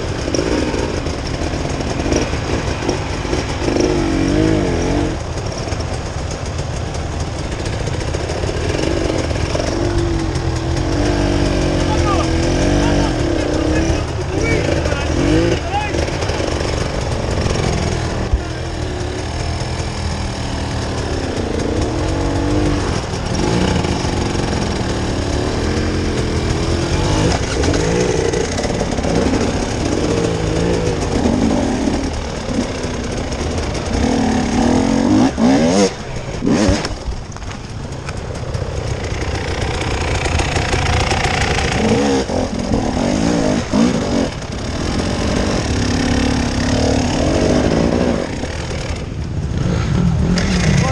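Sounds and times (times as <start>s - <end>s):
vehicle engine driving off-road: 0.0s - 50.9s.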